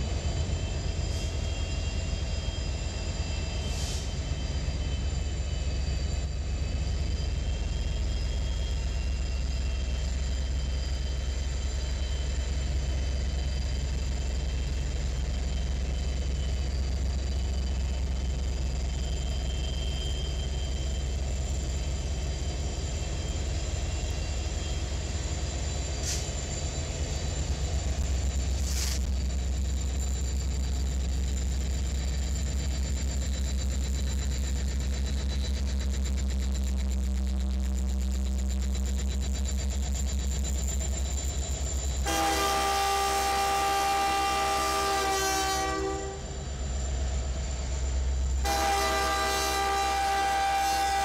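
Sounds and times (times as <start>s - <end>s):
locomotive engine rumble: 0.0s - 51.0s.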